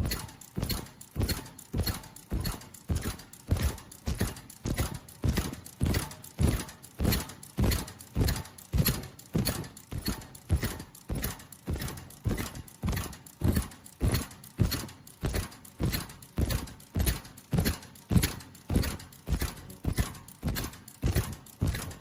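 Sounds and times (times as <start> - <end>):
welding machine knocking: 0.0 - 22.0.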